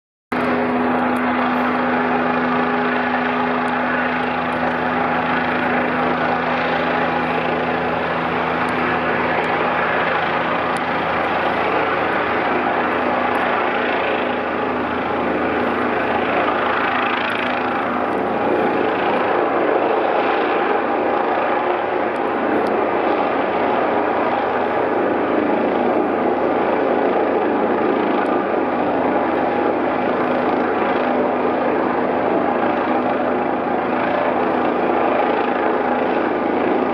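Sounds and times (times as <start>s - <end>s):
helicopter rotor drone: 0.3s - 36.9s.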